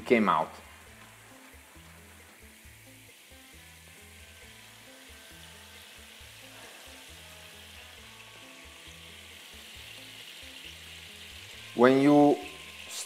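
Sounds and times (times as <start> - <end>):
wine sizzling in hot pan: 0.0 - 13.0.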